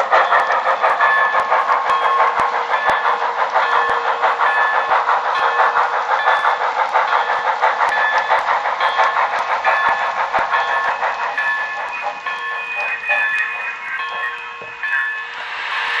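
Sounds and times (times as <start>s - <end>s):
wheels clicking on model track: 0.0s - 14.0s
model train chuffing through small speaker: 0.0s - 16.0s.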